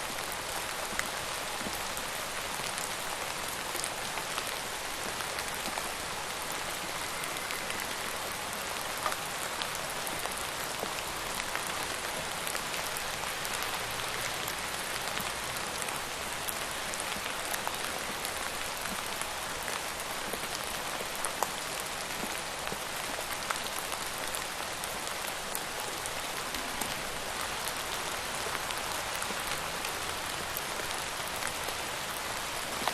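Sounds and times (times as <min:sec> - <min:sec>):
raindrops pattering on a surface: 0:00.0 - 0:32.9
steady rain hiss: 0:00.0 - 0:32.9.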